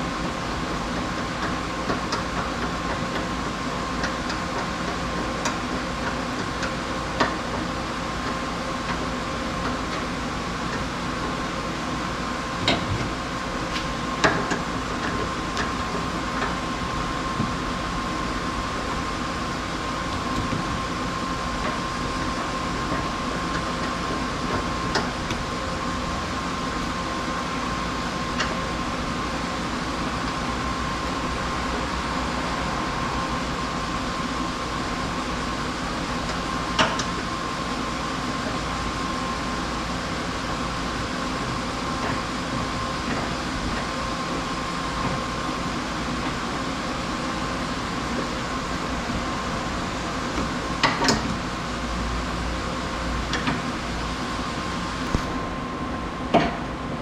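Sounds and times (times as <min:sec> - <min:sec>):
machine hum with high whine: 0:00.0 - 0:57.0.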